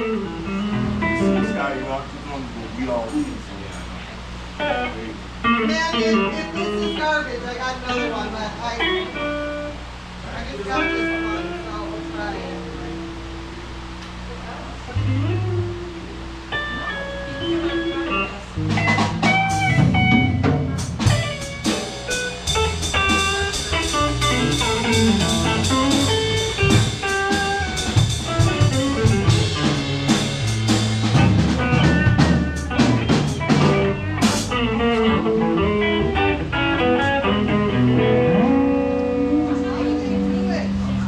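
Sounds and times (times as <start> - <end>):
blues band playing guitar and drums: 0.0 - 2.1, 4.2 - 7.0, 8.8 - 41.0.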